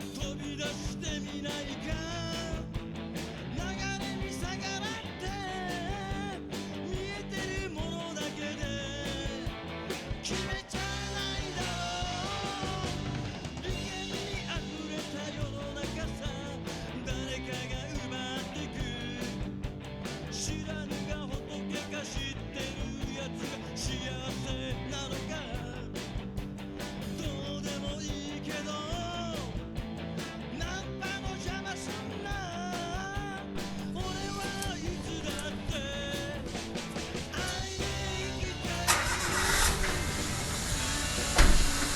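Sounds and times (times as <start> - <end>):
rock music with singing and guitar: 0.0 - 41.9.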